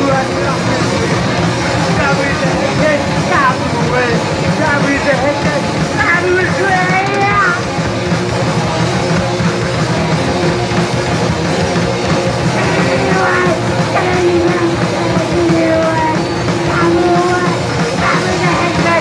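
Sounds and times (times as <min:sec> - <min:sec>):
punk rock band playing live: 0:00.0 - 0:19.0.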